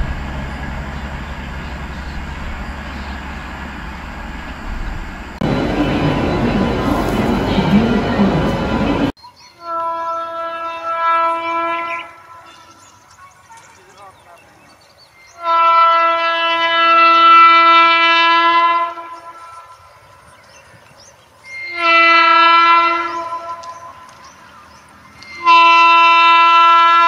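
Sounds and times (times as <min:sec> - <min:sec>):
locomotive horn blasts: 0:00.0 - 0:12.8, 0:15.3 - 0:19.9, 0:21.5 - 0:24.2, 0:25.2 - 0:27.0.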